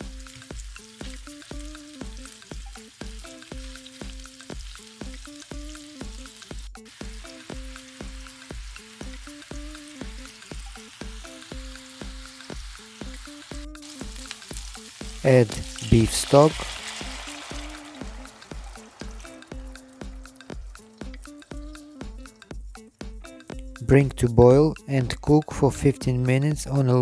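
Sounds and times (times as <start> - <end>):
meatballs sizzling in a pan: 0.0 - 22.6
background music with a beat: 0.0 - 27.0.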